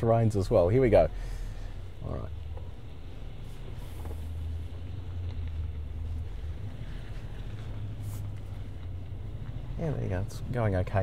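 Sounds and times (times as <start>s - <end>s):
engine and drivetrain drone: 0.3s - 11.0s.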